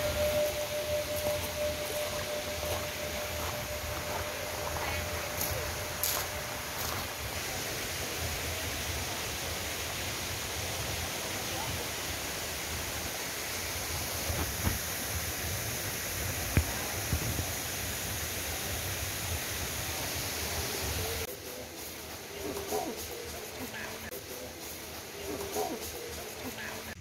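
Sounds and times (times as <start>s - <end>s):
running water hissing: 0.0s - 27.0s.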